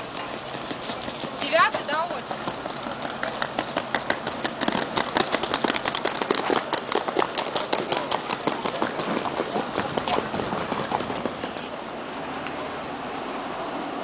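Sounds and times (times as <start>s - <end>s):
footsteps on paved platform: 0.0s - 11.8s
suitcase wheels rolling on paving: 0.0s - 12.0s.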